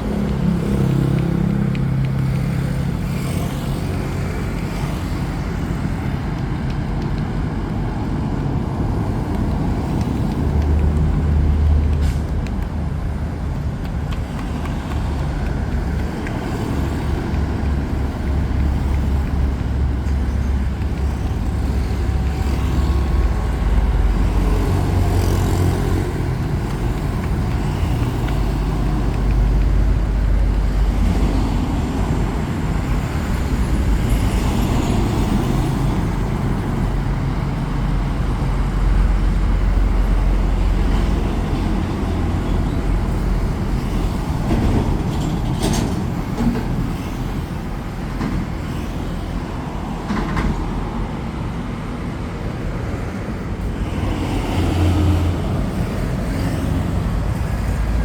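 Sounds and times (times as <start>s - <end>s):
low rumble of passing vehicles: 0.0s - 58.0s.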